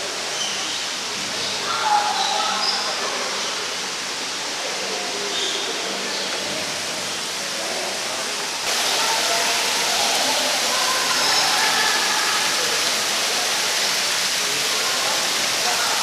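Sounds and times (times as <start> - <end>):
falling water rushing: 0.0 - 16.0.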